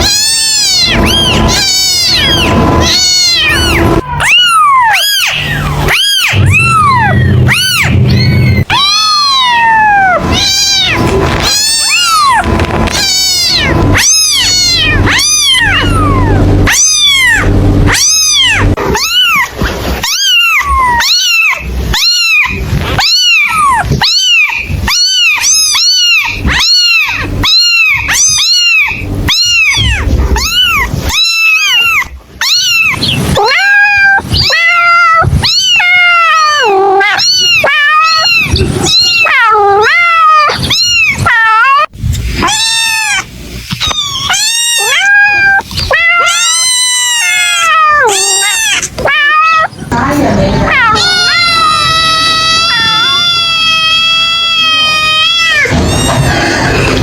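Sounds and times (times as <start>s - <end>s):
kitten meowing: 0.0s - 57.0s.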